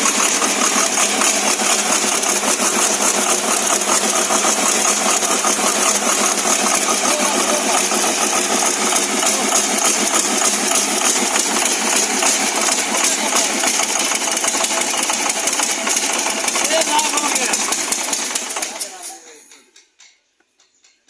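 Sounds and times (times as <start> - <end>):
generator engine running: 0.0 - 19.6.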